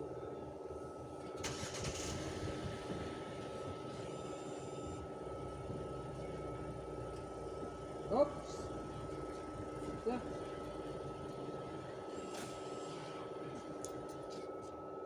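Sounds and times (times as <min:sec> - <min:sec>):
machine humming with high whine: 0:00.0 - 0:15.0.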